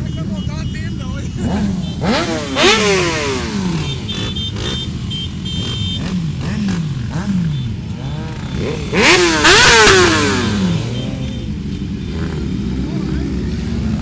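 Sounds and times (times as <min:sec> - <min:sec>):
loud motorcycle rev: 0:00.0 - 0:14.0
motorcycle engines rumbling: 0:00.0 - 0:14.0
motorcycle throttle blips: 0:00.0 - 0:14.0.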